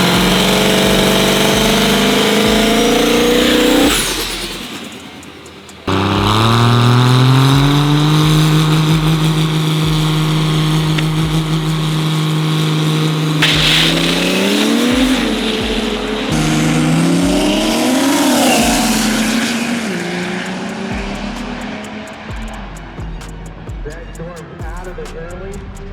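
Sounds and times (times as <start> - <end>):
diesel truck engine at full throttle: 0.0 - 25.5.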